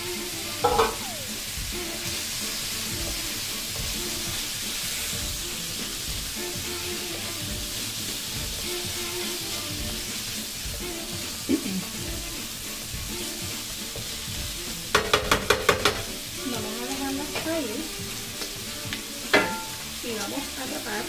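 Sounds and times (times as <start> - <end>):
chicken wings sizzling in oil: 0.0 - 21.0.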